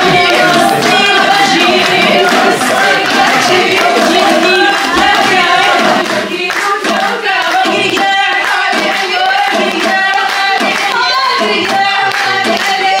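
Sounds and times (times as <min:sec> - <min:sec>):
hands clapping: 0:00.0 - 0:13.0
voices singing: 0:00.0 - 0:13.0.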